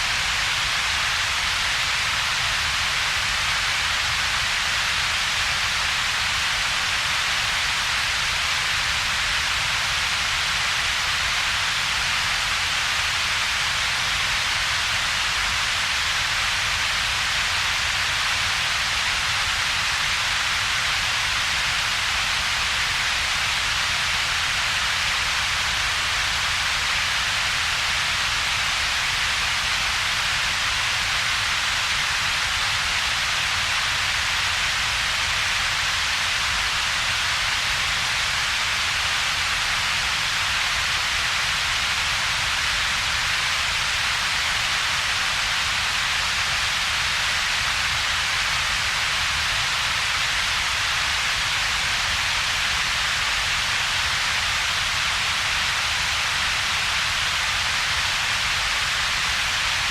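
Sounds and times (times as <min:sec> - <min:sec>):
bright synthetic hiss: 0:00.0 - 0:59.9.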